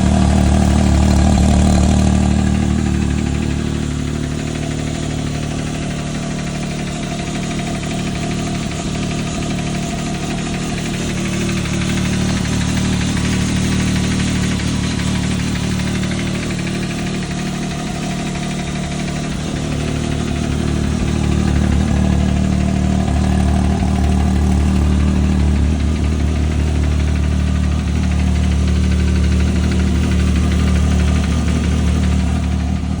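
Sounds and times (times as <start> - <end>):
engine running: 0.0 - 33.0
engine ticking noise: 0.0 - 33.0.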